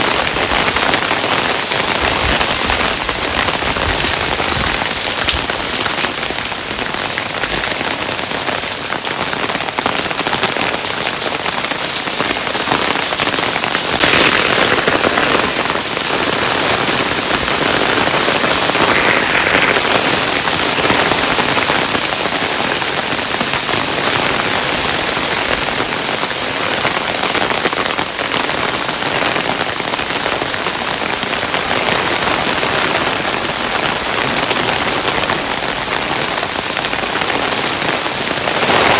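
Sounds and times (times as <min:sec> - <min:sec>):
hailstones falling: 0:00.0 - 0:38.9.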